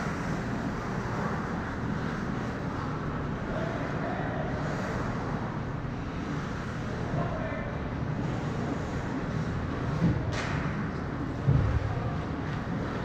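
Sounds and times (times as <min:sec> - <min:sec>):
low arena rumble: 0:00.0 - 0:13.0.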